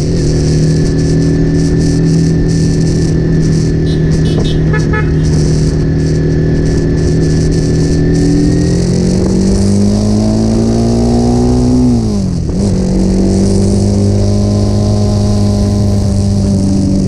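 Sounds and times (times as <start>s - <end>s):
motorcycle exhaust: 0.0s - 17.0s.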